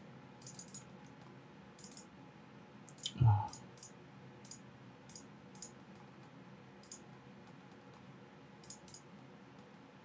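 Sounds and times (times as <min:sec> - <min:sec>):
faint room hum: 0:00.0 - 0:10.0
computer mouse clicks: 0:00.4 - 0:02.1, 0:02.9 - 0:09.9.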